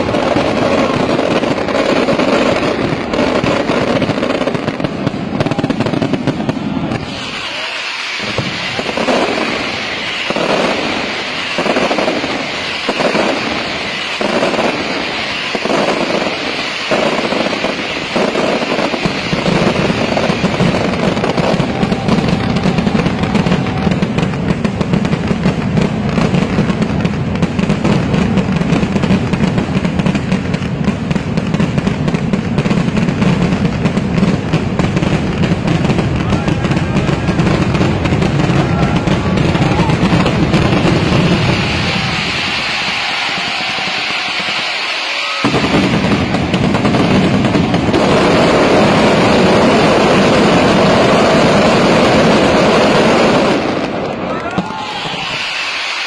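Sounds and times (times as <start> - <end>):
fireworks explosions: 0.0 - 56.0.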